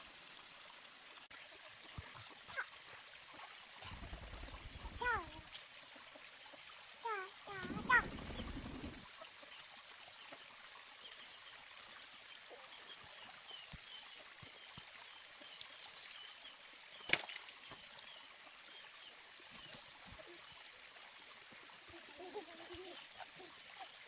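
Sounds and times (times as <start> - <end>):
faint trickling water: 0.0 - 24.0.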